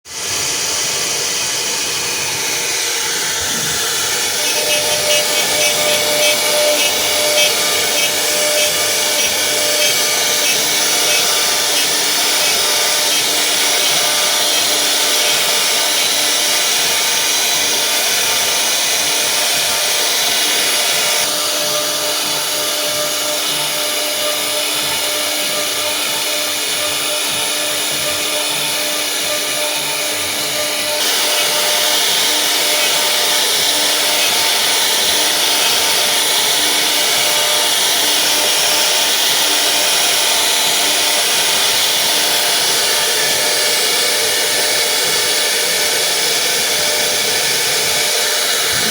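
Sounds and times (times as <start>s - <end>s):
cnc router spindle cutting: 0.1s - 48.9s.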